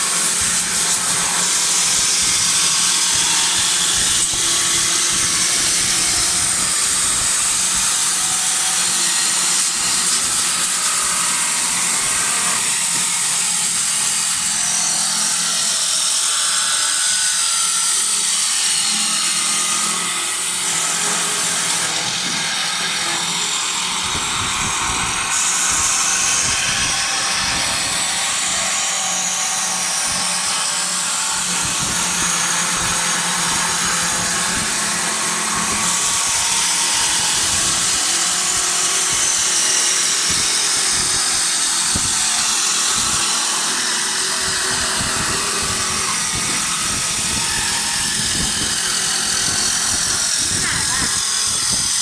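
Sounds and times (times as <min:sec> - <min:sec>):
cutter shaving hiss: 0:00.0 - 0:52.0
wood lathe humming: 0:00.0 - 0:52.0.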